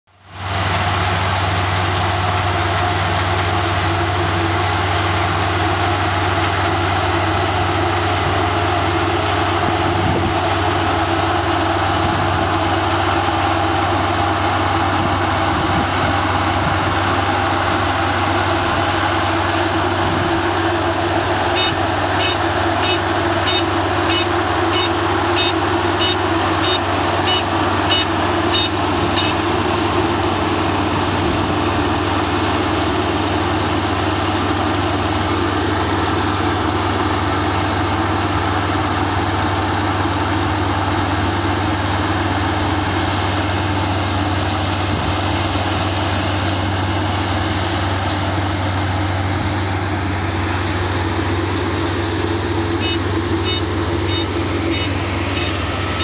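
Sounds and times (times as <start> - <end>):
combine harvester engine drone: 0.1 - 56.0.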